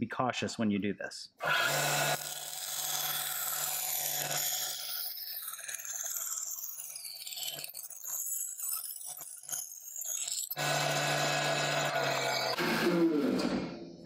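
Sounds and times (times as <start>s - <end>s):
bandsaw motor hum: 1.4s - 13.7s.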